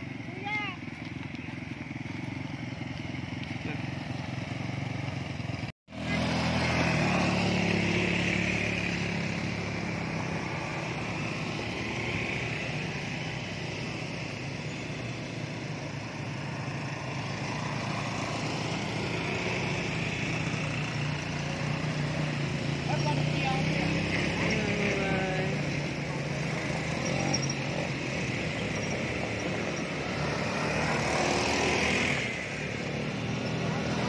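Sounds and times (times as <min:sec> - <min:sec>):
quad-bike engines running: 0:00.0 - 0:34.0.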